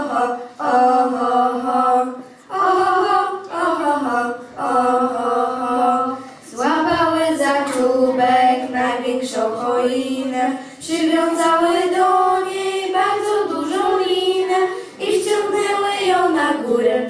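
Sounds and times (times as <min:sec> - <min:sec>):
girls singing a cappella: 0:00.0 - 0:17.0.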